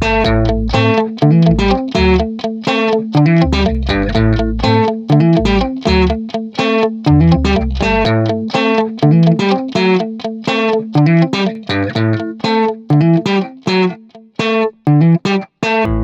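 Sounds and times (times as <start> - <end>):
plucked notes in steady rhythm: 0.0 - 16.0.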